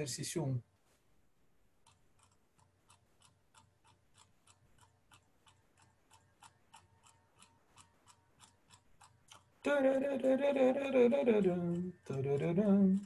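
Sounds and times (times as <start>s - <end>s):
mouse scroll wheel clicking: 1.8s - 13.0s.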